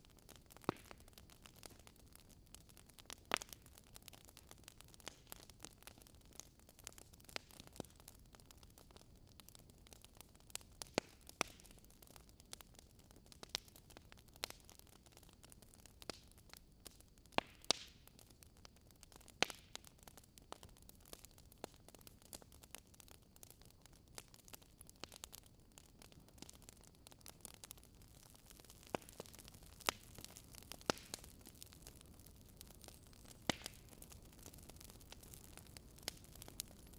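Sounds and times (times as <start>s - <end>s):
campfire crackling and popping: 0.0s - 36.9s
faint steady hiss: 0.0s - 36.9s.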